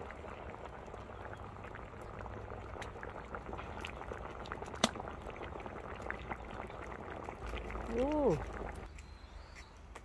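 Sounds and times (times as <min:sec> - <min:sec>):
sauce bubbling in a pot: 0:00.0 - 0:09.1.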